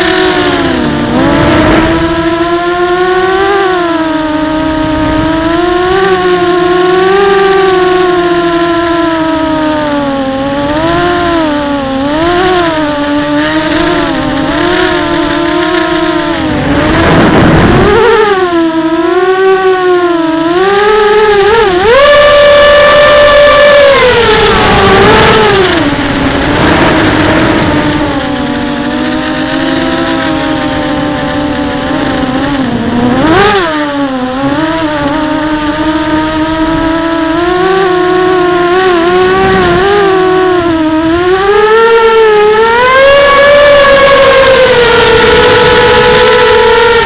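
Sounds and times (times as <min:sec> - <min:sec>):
quadcopter motors buzzing whine: 0:00.0 - 0:47.0.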